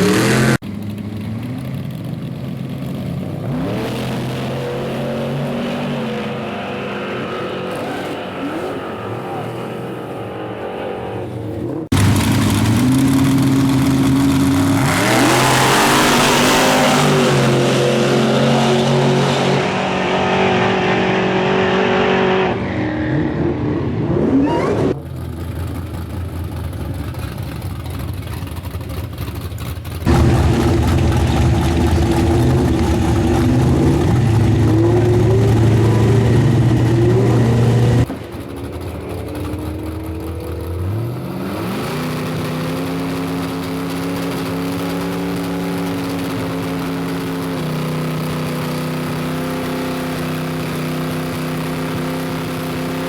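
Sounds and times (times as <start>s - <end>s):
race car engines revving: 0.0s - 53.0s.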